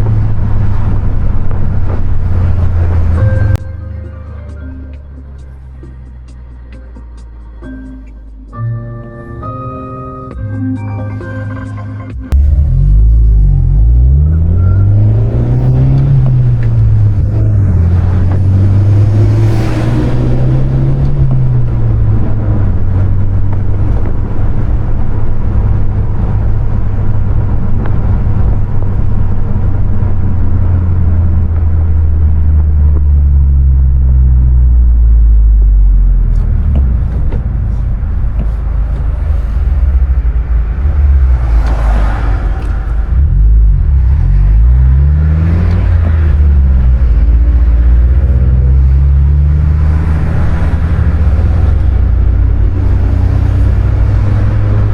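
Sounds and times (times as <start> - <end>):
car engine while driving: 0.0 - 8.6, 11.2 - 54.9.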